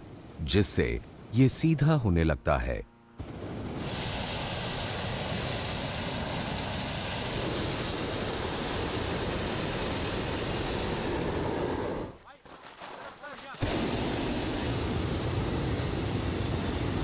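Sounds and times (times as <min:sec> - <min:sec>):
propane burner blasting: 0:00.0 - 0:01.7, 0:03.2 - 0:12.2, 0:13.6 - 0:17.0.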